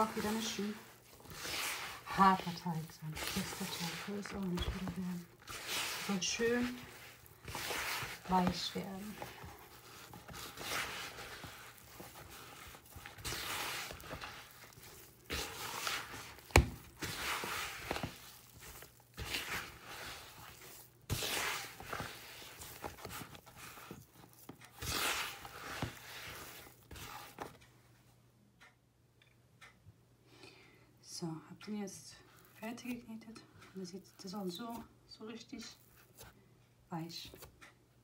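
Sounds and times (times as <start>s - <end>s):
hands kneading dough: 0.0s - 27.7s, 31.9s - 36.4s, 37.0s - 37.7s.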